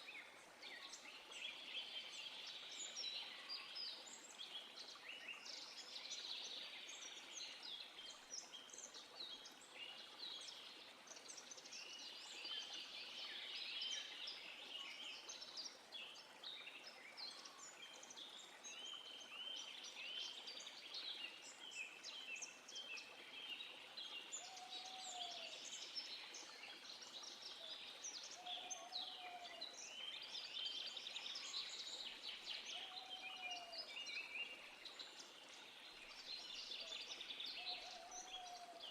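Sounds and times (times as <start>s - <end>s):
faint background hiss: 0.0s - 38.9s
songbirds chirping and trilling: 0.0s - 38.9s.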